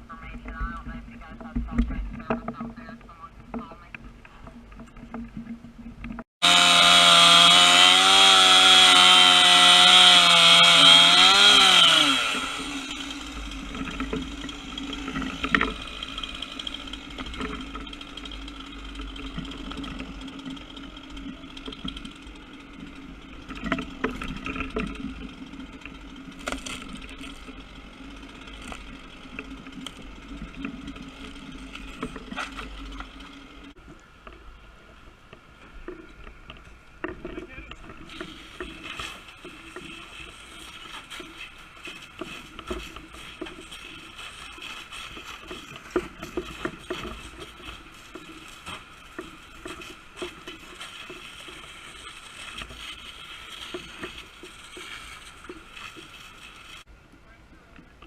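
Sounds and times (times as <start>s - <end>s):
gas-powered saw engine: 6.4s - 33.8s, 37.7s - 56.9s.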